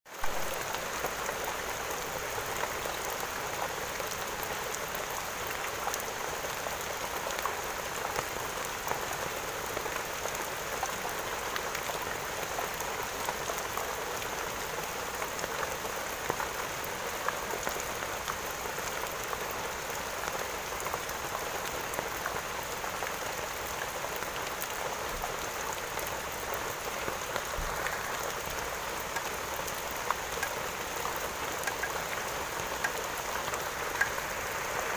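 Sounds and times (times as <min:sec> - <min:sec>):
steady rain pattering: 0:00.0 - 0:34.9.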